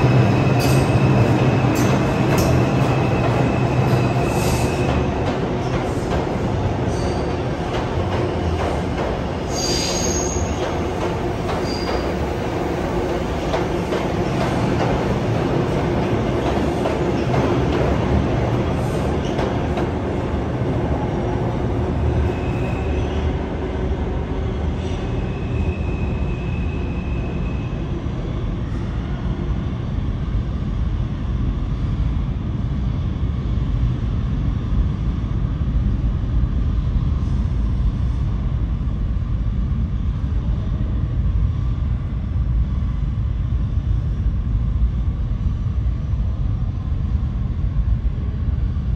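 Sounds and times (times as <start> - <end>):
subway train passing: 0.0 - 48.9.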